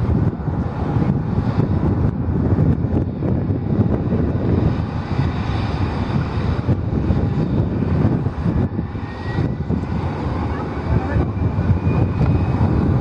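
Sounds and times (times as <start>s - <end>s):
aircraft engines rumbling: 0.0s - 13.0s
engine whine: 0.0s - 13.0s
wind buffeting microphone: 0.0s - 13.0s.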